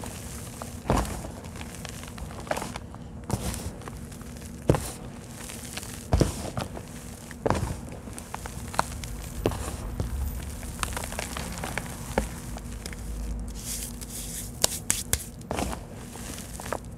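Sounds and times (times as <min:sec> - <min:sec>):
dirt and clay crunching: 0:00.0 - 0:16.9
sharp crackles and cracks: 0:00.0 - 0:16.9.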